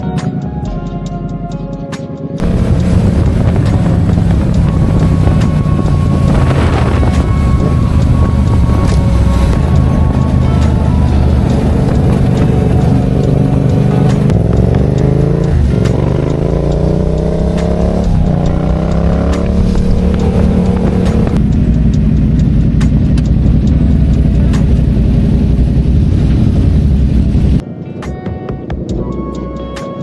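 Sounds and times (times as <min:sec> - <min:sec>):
motorcycle engine accelerating: 0:02.3 - 0:27.6.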